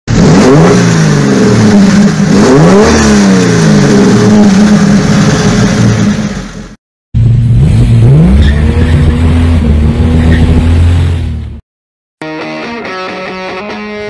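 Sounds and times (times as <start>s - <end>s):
car engine revving: 0.1s - 11.6s.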